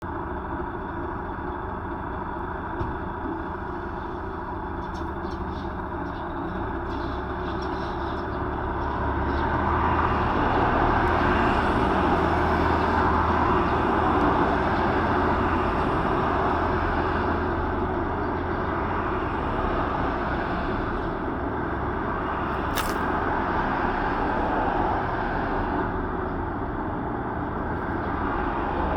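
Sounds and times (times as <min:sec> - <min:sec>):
traffic roar: 0:00.0 - 0:28.9.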